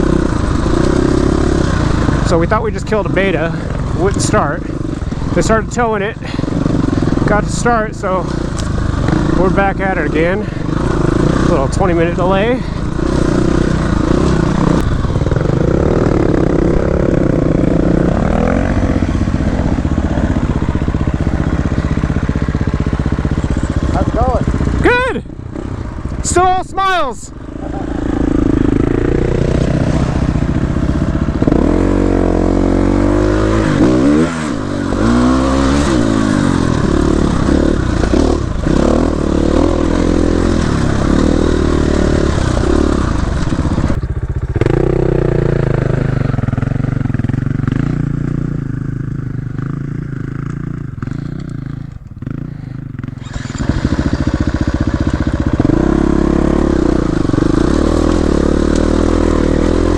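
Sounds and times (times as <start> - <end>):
bike rattling over rough ground: 0.0 - 26.6, 27.4 - 59.9
dirt bike engine revving: 0.0 - 59.9.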